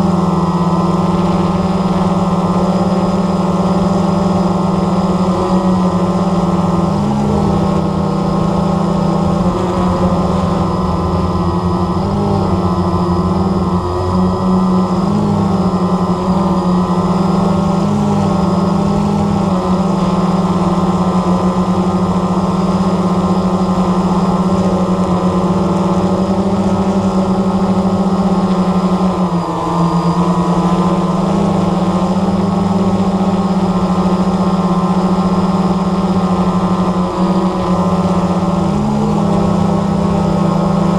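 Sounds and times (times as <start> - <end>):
drone propellers humming: 0.0 - 40.9.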